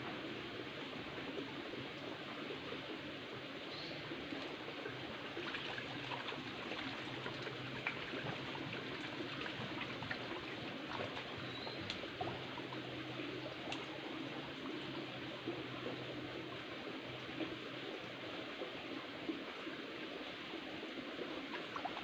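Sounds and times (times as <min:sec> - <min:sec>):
stream trickling over stones: 0:00.1 - 0:22.0.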